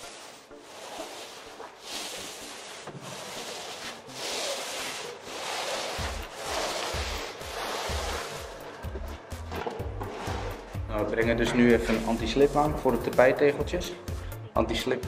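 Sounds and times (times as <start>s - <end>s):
paint roller swishing: 0.0s - 14.3s
background music with bass: 0.0s - 15.0s.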